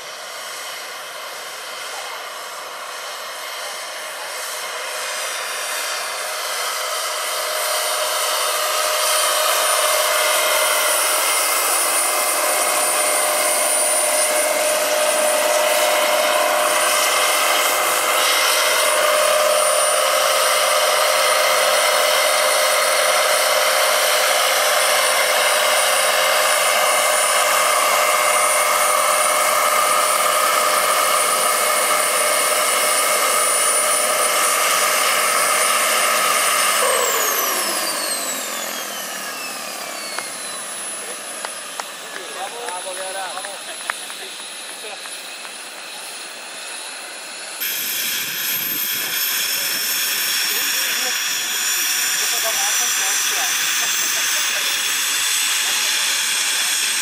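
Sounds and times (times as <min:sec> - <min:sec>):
helicopter rotor noise: 0:00.0 - 0:57.0
model turbine engine whine: 0:00.0 - 0:57.0.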